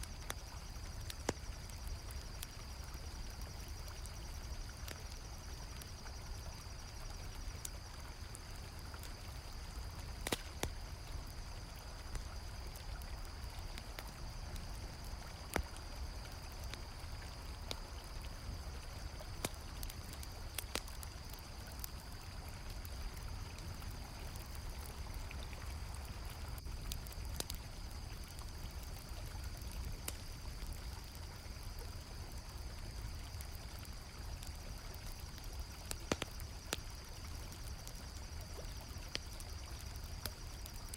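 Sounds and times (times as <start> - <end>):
campfire crackling: 0.0 - 40.9
crickets chirping: 0.0 - 40.9.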